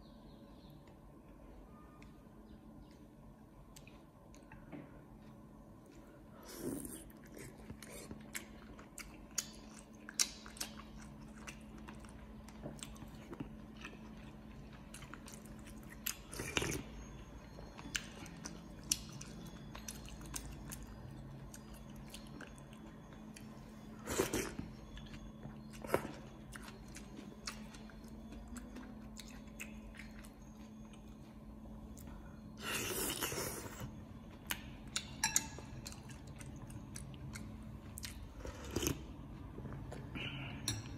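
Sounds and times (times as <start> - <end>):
faint steady hum: 0.0 - 40.9
person chewing: 3.7 - 40.9.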